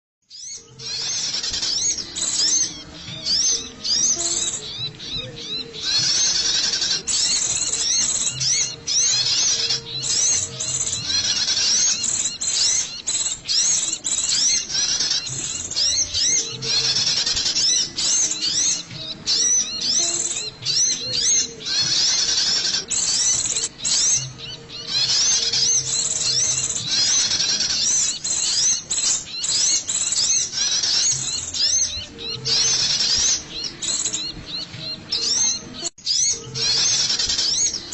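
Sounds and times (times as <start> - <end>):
bird chirping high notes: 0.3 - 37.9.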